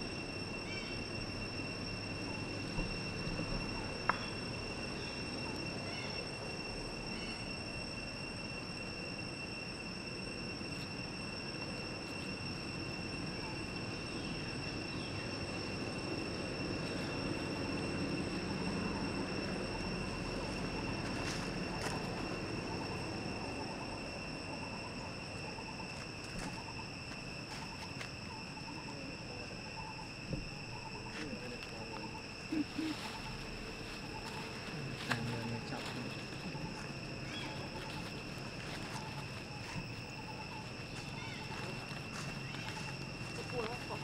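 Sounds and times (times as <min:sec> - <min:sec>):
faint chirping: 0:00.0 - 0:44.0
insects droning: 0:00.0 - 0:44.0.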